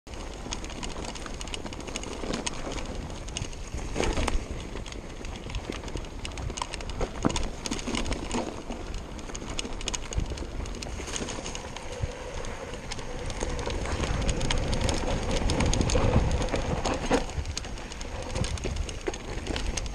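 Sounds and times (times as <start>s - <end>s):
bike rattling and clicking: 0.1s - 19.9s
tyres crunching over dirt: 0.1s - 19.9s
wind on microphone: 0.2s - 19.9s.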